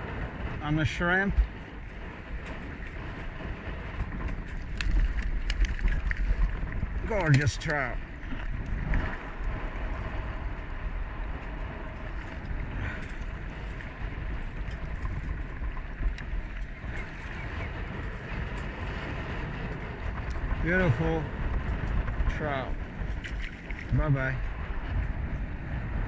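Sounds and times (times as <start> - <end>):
wind buffeting microphone: 0.0 - 26.0
water lapping against kayak hull: 1.3 - 26.0.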